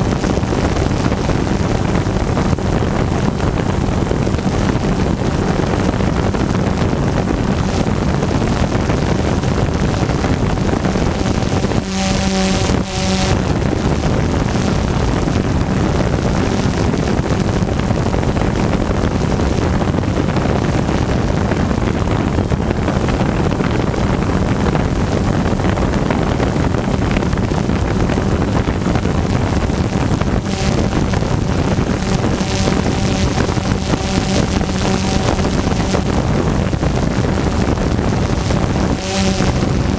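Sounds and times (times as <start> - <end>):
drone motors humming: 0.0 - 39.9
wind rush on microphone: 0.0 - 39.9.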